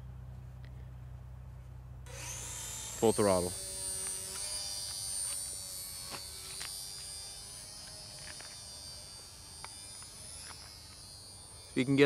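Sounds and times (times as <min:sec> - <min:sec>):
model plane motor buzzing whine: 0:02.0 - 0:12.0.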